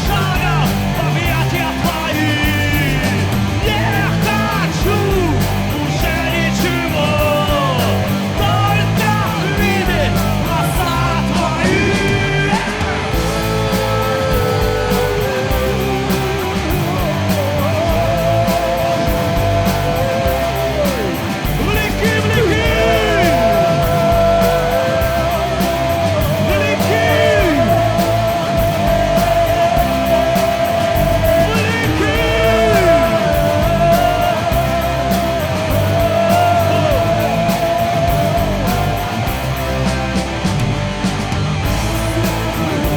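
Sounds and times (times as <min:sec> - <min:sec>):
rock worship band music: 0:00.0 - 0:42.9
voice singing long notes: 0:00.0 - 0:42.9.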